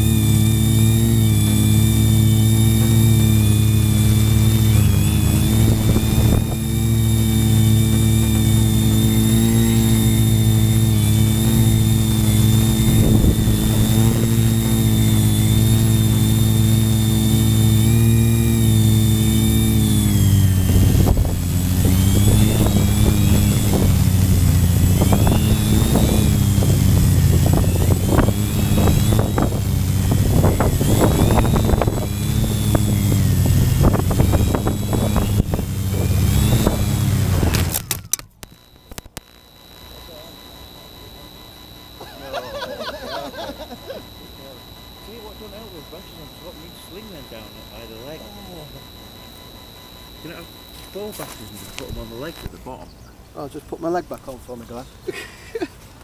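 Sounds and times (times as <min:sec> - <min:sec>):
drone propellers whirring: 0:00.0 - 0:55.2.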